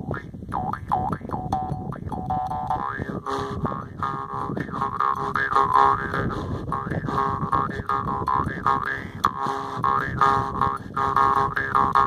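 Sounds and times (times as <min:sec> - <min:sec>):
jaw harp twanging: 0:00.0 - 0:12.0.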